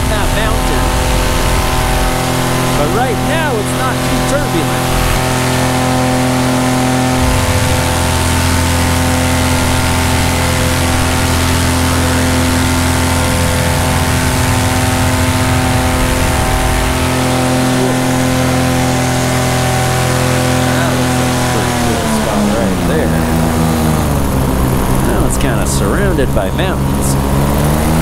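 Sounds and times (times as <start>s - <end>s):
deep low rumble: 0.0s - 28.0s
paramotor engine and propeller: 0.0s - 28.0s.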